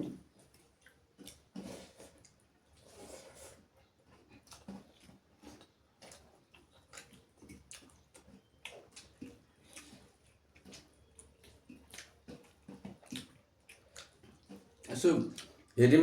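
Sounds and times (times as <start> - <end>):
chewing and mouth smacks: 0.0 - 15.8.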